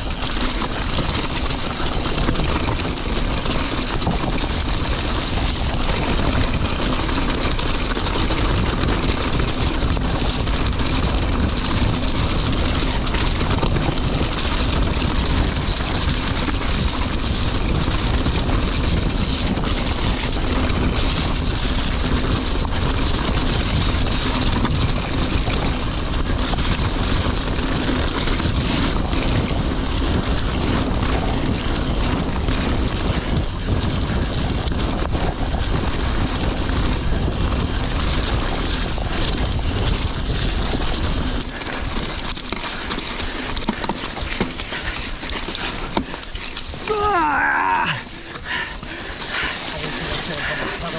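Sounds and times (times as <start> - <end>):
tyres rolling over gravel: 0.0 - 50.9
wind on microphone: 0.0 - 50.9.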